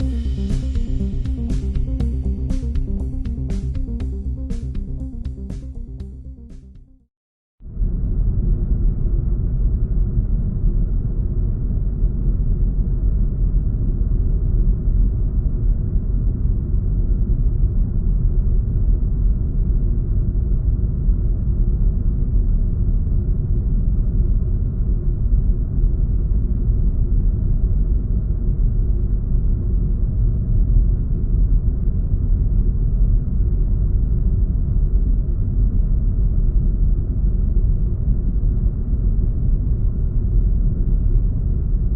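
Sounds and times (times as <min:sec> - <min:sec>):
faint low hum: 0:00.0 - 0:06.9, 0:07.7 - 0:41.9
deep steady rumble: 0:00.0 - 0:07.0, 0:07.6 - 0:41.9.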